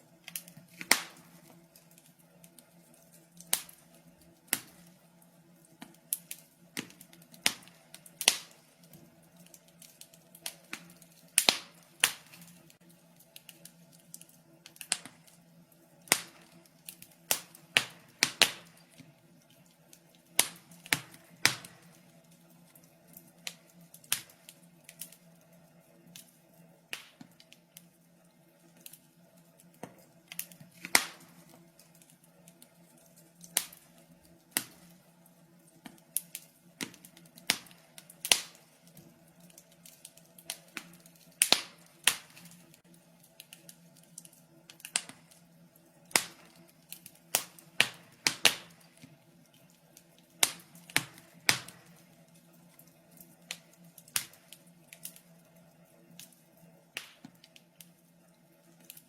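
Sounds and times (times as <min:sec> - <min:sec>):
faint steady hum: 0:00.0 - 0:59.0
wood fire crackling: 0:00.0 - 0:59.0.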